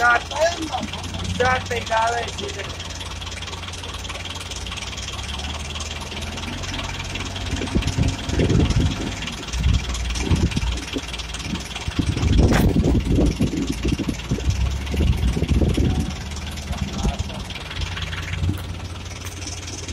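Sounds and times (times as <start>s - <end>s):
backhoe diesel engine working: 0.0s - 19.9s.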